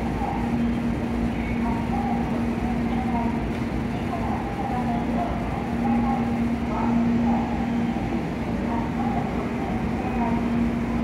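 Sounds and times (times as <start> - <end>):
distant voices: 0.0 - 11.0
steady low hum: 0.0 - 11.0.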